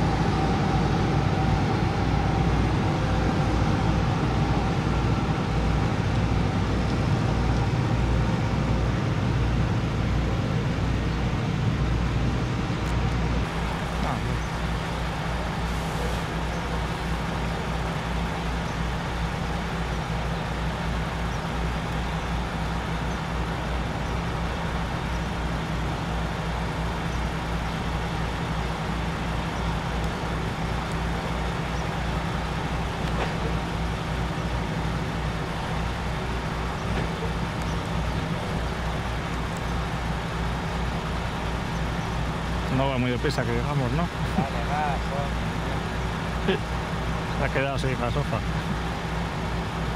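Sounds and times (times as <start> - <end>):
constant noise wash: 0.0 - 49.9
low engine drone: 0.0 - 49.9.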